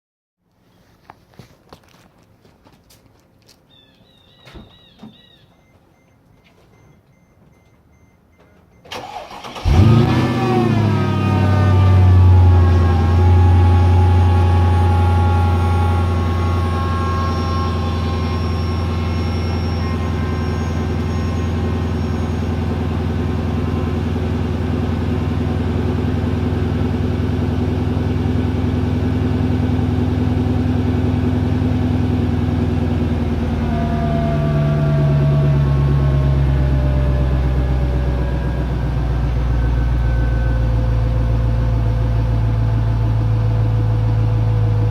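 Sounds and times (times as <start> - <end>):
car engine cold start and idle: 6.8 - 44.9.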